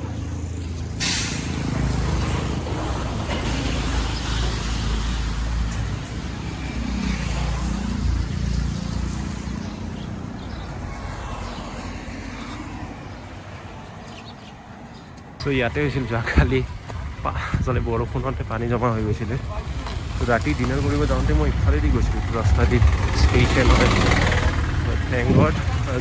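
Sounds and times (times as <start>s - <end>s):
street traffic: 0.0s - 26.0s
vehicle passing close: 0.0s - 26.0s.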